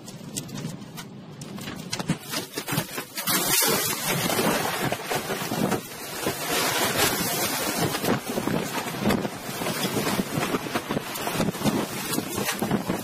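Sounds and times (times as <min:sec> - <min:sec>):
rain and debris hitting car: 0:00.0 - 0:13.0
strong wind around car: 0:00.0 - 0:13.0.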